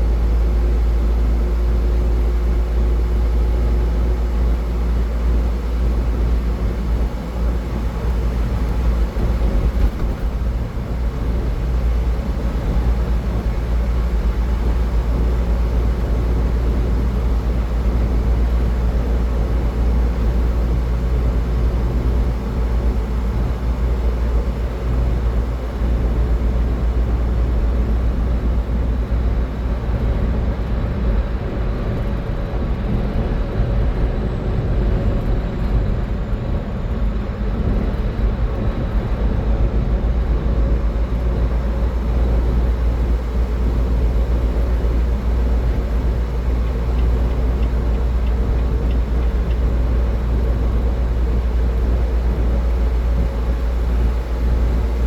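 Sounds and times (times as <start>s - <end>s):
car driving at highway speed: 0.0s - 55.0s.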